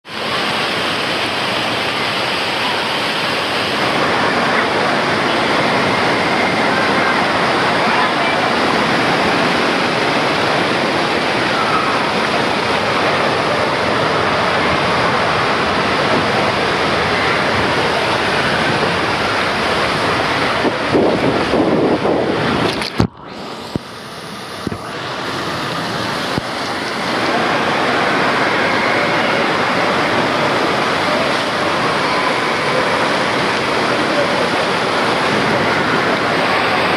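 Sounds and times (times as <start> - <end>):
water rushing down a slide: 0.0 - 36.9.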